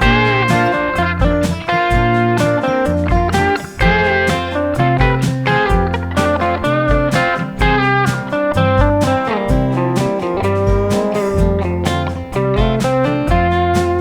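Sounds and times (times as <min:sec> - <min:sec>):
country blues on guitars: 0:00.0 - 0:14.0
repeating low bass line: 0:00.0 - 0:14.0.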